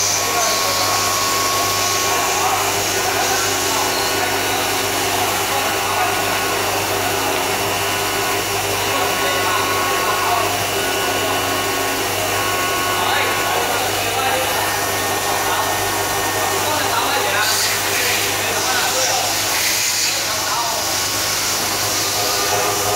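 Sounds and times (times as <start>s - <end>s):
milling spindle whir: 0.0s - 22.9s.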